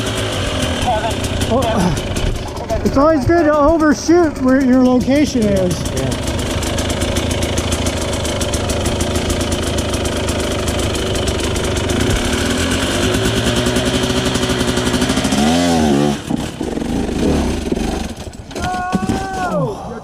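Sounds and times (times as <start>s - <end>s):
dirt bike engine revving: 0.0s - 18.4s.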